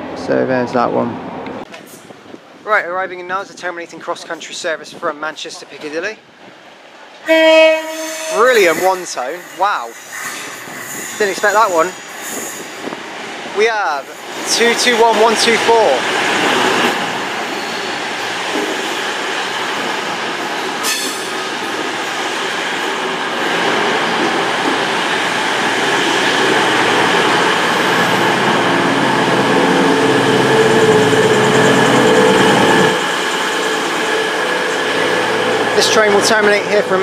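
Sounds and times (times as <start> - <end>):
diesel train engine: 6.9 - 37.0.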